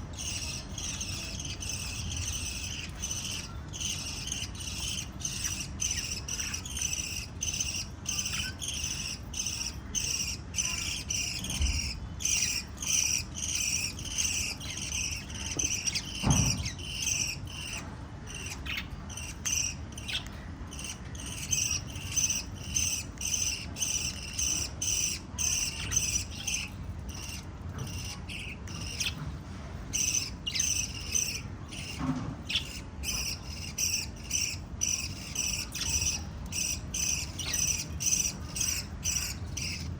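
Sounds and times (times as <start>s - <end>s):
rapid high-pitched chirping: 0.0s - 29.2s, 29.9s - 39.9s.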